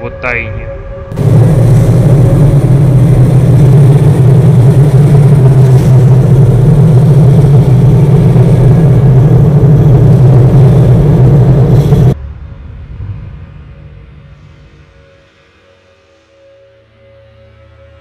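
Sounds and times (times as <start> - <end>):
electric train rumbling: 0.0 - 16.1.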